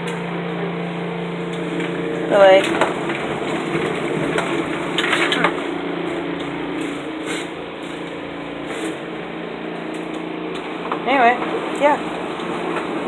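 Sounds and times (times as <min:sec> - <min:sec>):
washing machine motor hum: 0:00.0 - 0:13.0
water churning in tub: 0:01.1 - 0:13.0
washing machine rattling: 0:01.2 - 0:13.0.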